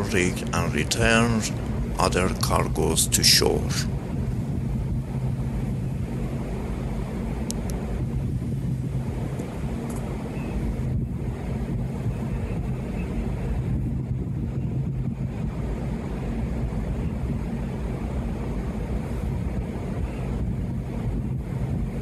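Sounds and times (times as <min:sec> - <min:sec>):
marine diesel machinery drone: 0:00.0 - 0:22.0.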